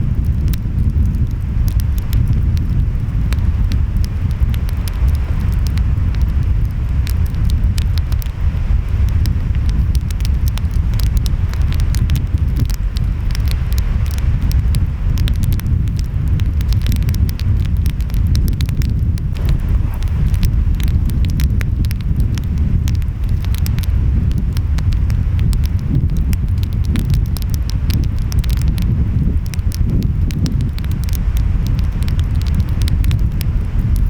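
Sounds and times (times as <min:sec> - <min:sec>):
surf rumble: 0:00.0 - 0:34.0
wind: 0:00.0 - 0:34.0
wood fire crackling and popping: 0:00.0 - 0:34.0.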